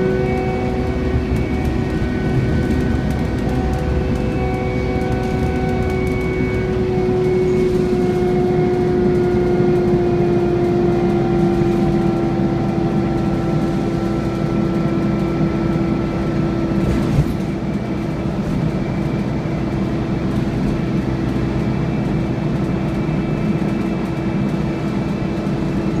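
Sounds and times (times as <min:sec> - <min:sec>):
bus engine whine: 0:00.0 - 0:26.0
low engine rumble: 0:00.0 - 0:26.0.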